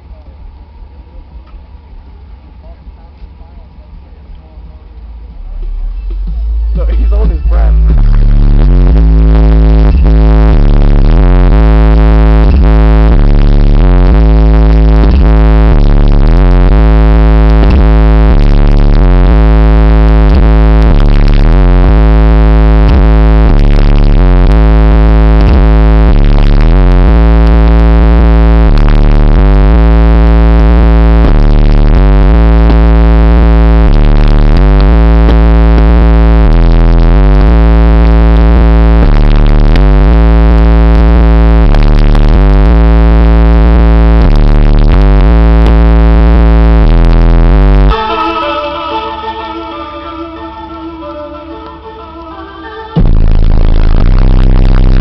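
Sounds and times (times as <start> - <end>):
bass-heavy synth music: 5.0 - 55.0.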